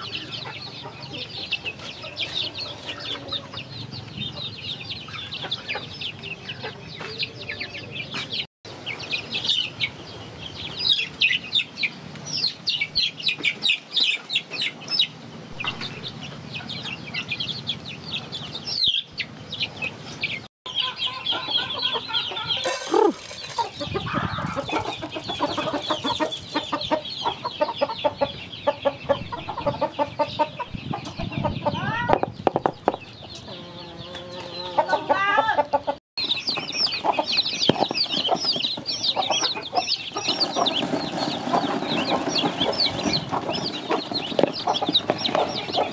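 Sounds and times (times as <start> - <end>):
chickens clucking: 0.0 - 45.9
chicks peeping: 0.0 - 45.9.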